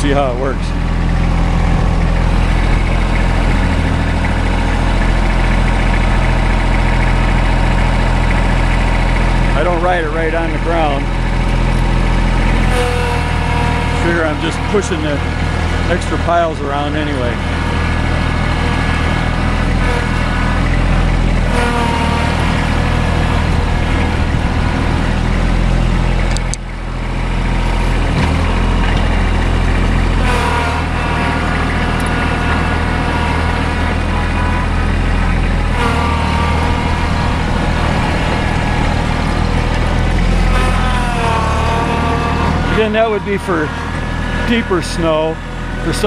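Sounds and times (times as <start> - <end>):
tractor engine running under load: 0.0 - 46.0.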